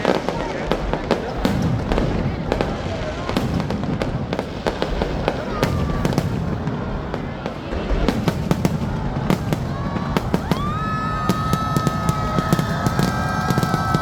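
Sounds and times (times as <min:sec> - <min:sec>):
fireworks crackling pops: 0:00.0 - 0:14.0.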